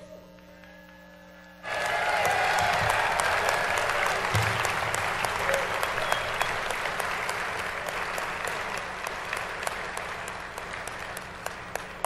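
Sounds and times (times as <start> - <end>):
audience applauding: 1.6 - 12.0
separate claps: 1.6 - 12.0.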